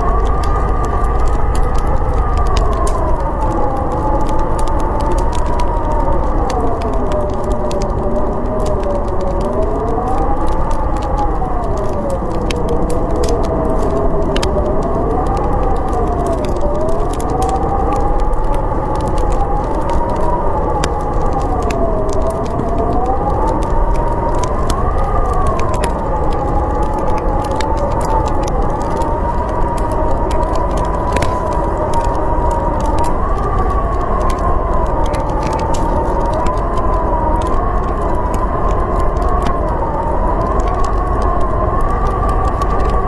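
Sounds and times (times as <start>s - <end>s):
storm wind howling: 0.0s - 43.0s
wood fire crackling: 0.0s - 43.0s.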